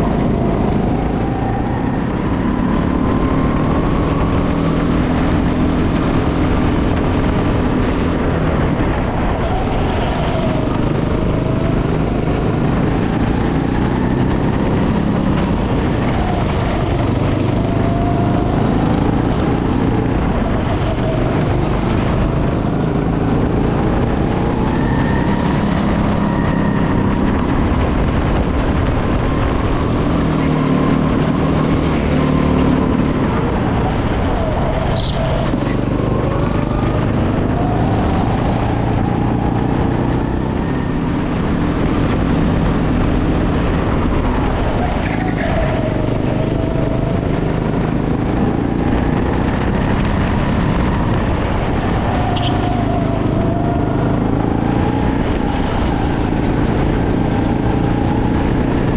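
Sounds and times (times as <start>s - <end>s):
go-kart engine revving: 0.0s - 58.9s.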